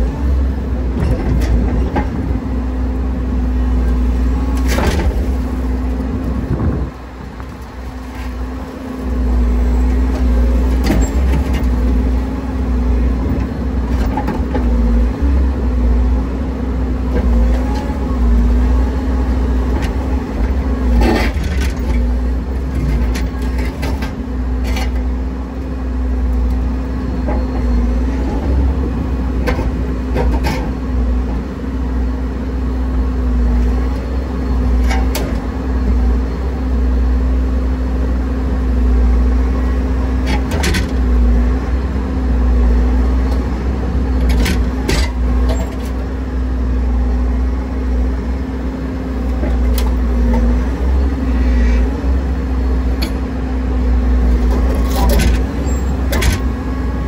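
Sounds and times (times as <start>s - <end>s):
earth-moving machine engine rumbling: 0.0s - 57.0s.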